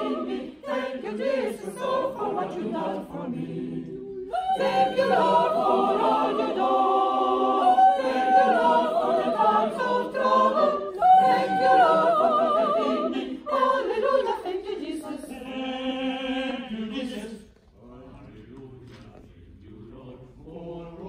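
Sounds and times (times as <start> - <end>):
mixed choir singing a cappella: 0.0 - 21.0.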